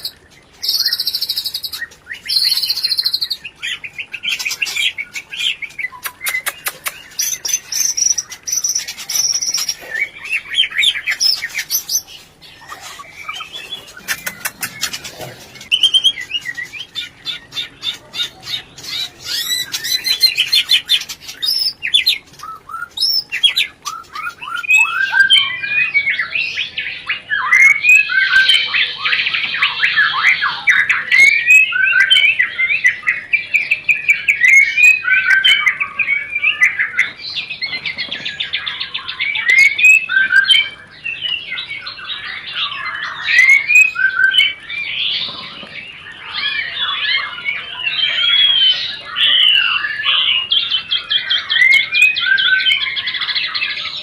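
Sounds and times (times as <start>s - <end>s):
songbird whistling and chattering: 0.0s - 45.3s, 46.1s - 54.0s.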